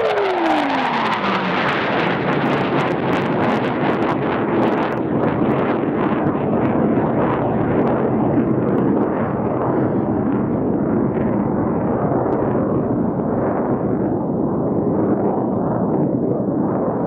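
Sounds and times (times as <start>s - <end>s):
jets roaring: 0.0s - 14.0s.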